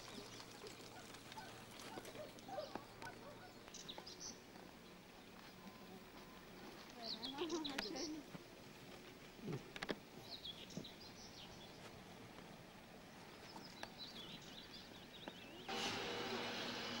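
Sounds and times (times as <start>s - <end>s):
songbirds chirping and warbling: 0.0s - 15.7s.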